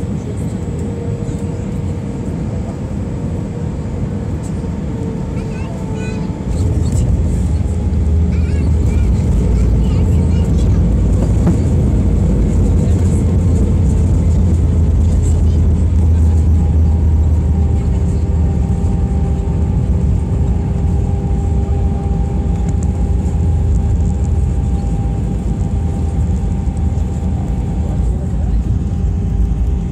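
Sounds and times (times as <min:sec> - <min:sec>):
aircraft engines and landing gear rumble: 0:00.0 - 0:29.9
steady whining tones: 0:00.0 - 0:29.9.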